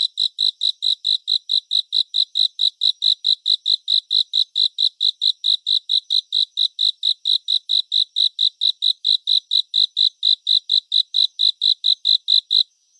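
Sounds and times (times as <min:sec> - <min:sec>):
cricket chirping: 0:00.0 - 0:12.9.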